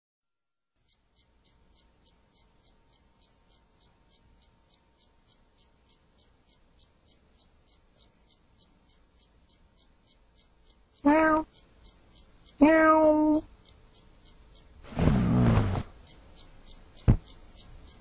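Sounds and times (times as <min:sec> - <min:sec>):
clock ticking faintly: 0:00.8 - 0:18.0.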